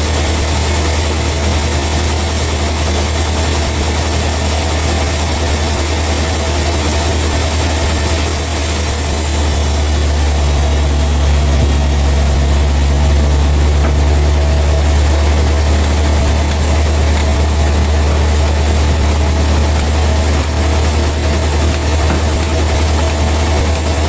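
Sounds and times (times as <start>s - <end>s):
heavy engine droning: 0.0s - 24.0s.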